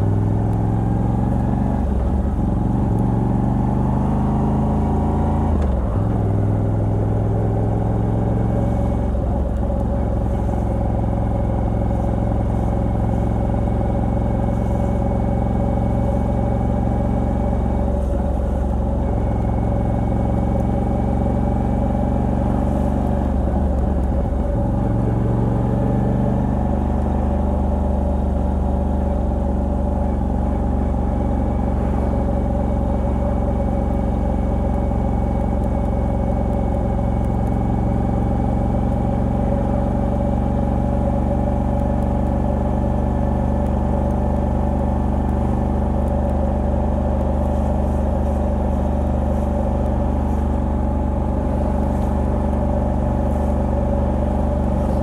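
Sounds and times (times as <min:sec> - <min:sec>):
motorcycle v-twin engine running: 0:00.0 - 0:55.0.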